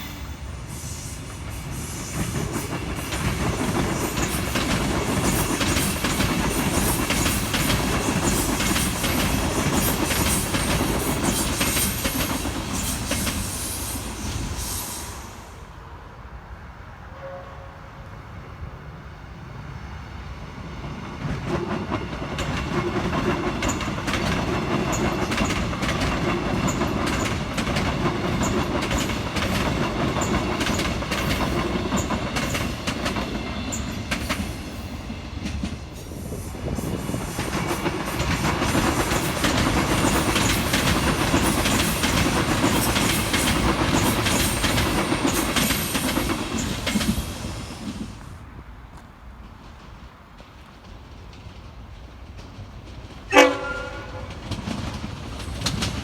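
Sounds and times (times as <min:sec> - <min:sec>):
train wheels clacking on rails: 0:00.0 - 0:15.4, 0:20.8 - 0:56.0.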